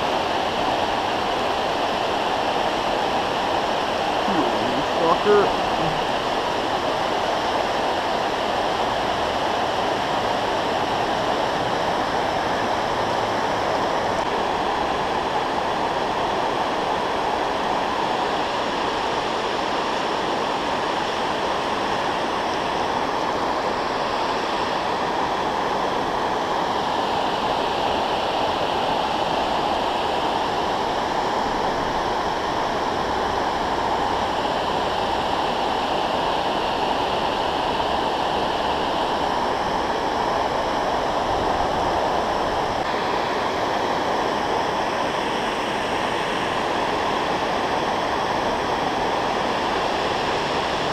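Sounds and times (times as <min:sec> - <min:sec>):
water rushing over dam spillway: 0:00.0 - 0:50.9.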